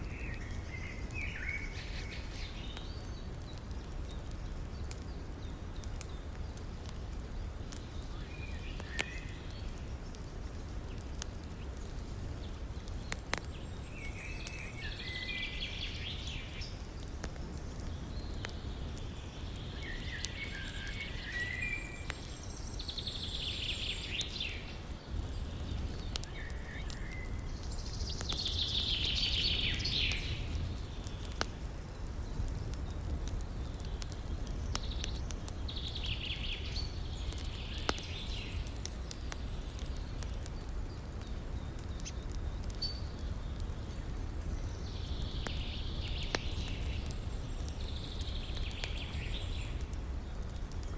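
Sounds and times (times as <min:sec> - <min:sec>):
songbird singing: 0:00.0 - 0:06.6, 0:07.3 - 0:50.9
campfire crackling and popping: 0:00.0 - 0:50.9.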